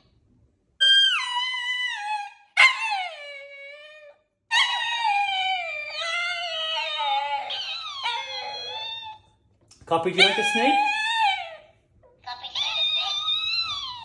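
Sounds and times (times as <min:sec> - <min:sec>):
dog howling: 0:00.8 - 0:09.2, 0:10.2 - 0:11.8, 0:12.6 - 0:14.0.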